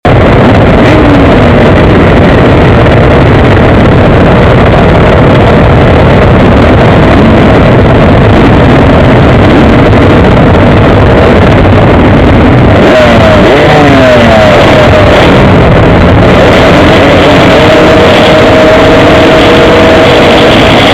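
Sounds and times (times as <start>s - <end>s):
wind rushing noise: 0.0s - 20.9s
motocross bike engine revving: 0.1s - 20.9s.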